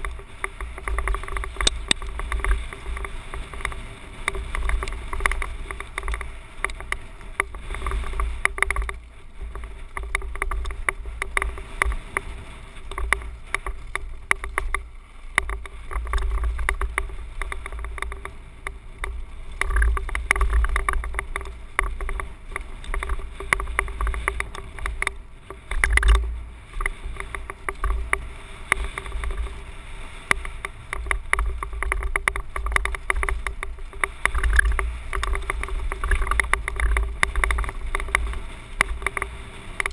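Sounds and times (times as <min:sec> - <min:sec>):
mountain bike rattling on dirt trail: 0:00.0 - 0:39.9
wind buffeting microphone: 0:00.0 - 0:39.9.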